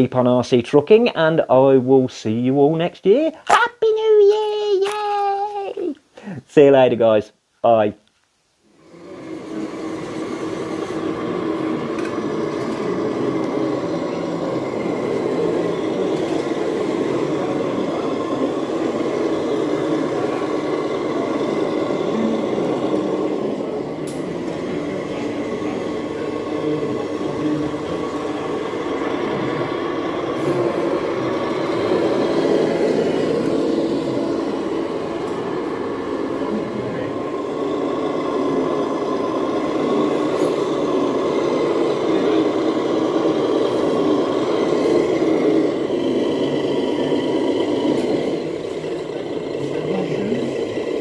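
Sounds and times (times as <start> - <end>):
model truck motors: 8.8 - 51.0.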